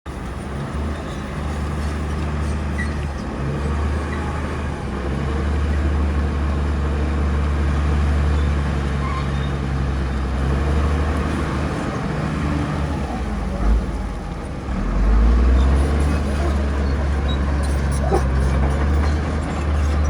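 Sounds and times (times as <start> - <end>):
diesel engine droning: 0.1 - 20.0.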